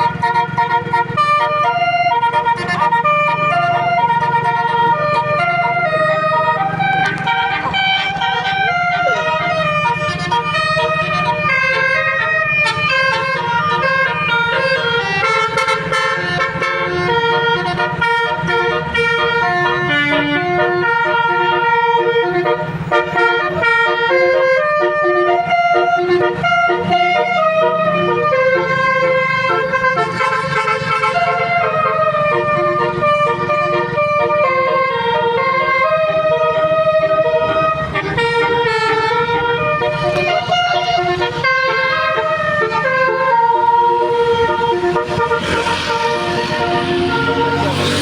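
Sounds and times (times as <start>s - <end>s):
bus engine running: 0.0s - 48.0s
musical air horn melody: 0.0s - 48.0s.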